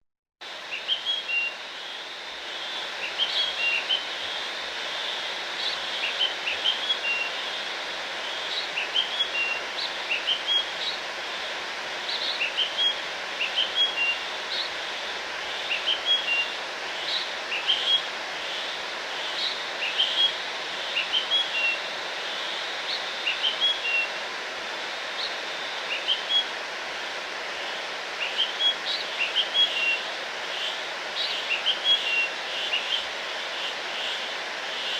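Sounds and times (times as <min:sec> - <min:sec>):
steady background hiss: 0:00.4 - 0:34.9.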